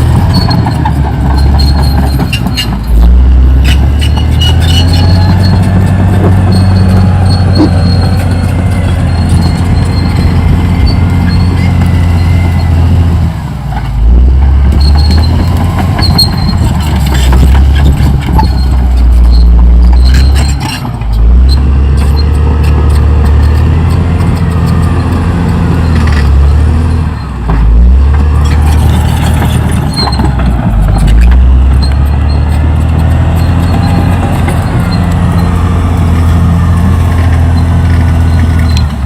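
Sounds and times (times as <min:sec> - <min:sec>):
bulldozer diesel engine under load: 0:00.0 - 0:39.0.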